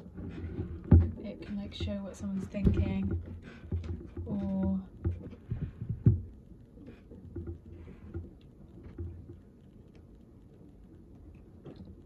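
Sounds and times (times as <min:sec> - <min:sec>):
soft low bumps: 0:00.0 - 0:10.0.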